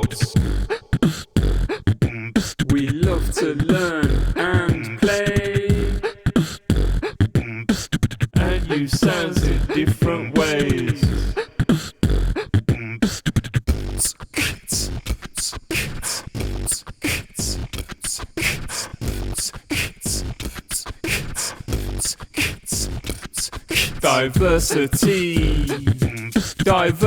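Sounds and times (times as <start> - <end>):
vocal beatboxing: 0.0 - 27.0.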